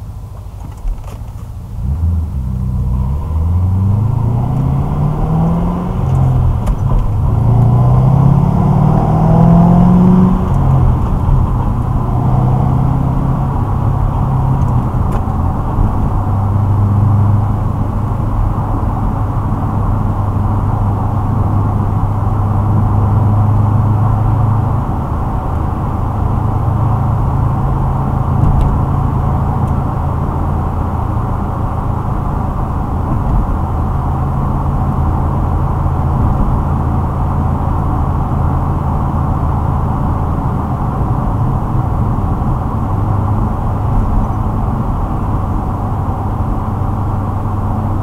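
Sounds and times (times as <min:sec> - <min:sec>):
car engine revving through gears: 0:01.7 - 0:46.6.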